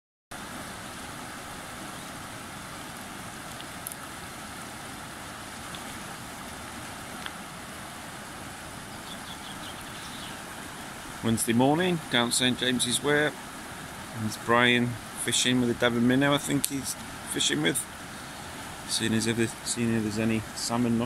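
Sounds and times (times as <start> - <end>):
river water rushing over rocks: 0.4 - 21.0.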